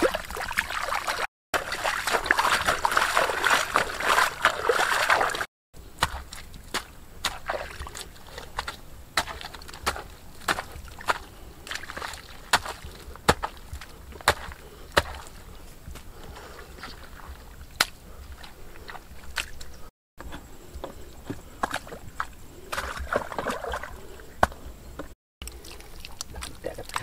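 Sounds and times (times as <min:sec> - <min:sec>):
wet mud splats: 0:00.0 - 0:19.7, 0:21.2 - 0:24.6
water sloshing: 0:00.0 - 0:19.9, 0:20.9 - 0:27.0
water trickling through mud: 0:00.0 - 0:19.9, 0:21.2 - 0:27.0.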